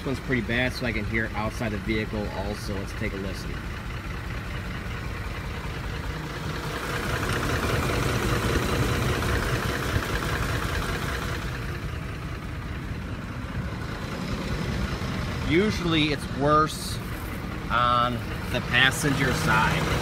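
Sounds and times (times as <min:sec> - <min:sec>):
engine idling with rapid knocking: 0:00.0 - 0:20.0.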